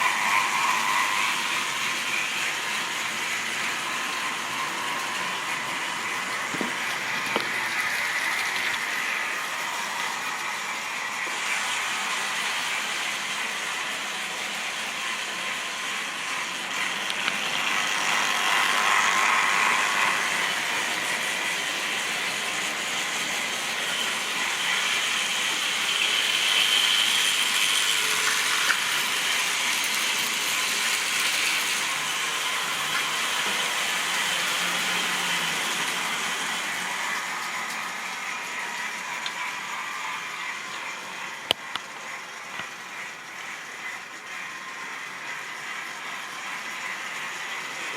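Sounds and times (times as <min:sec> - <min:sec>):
model train motor whirring: 0:00.0 - 0:47.9.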